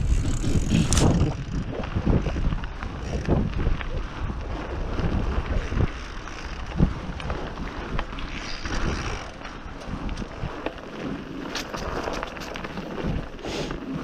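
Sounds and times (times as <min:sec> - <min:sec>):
bike knocks and rattles: 0:00.0 - 0:03.8, 0:04.9 - 0:13.2
bike tyre noise on dirt: 0:00.0 - 0:14.0
wind buffeting microphone: 0:00.0 - 0:14.0.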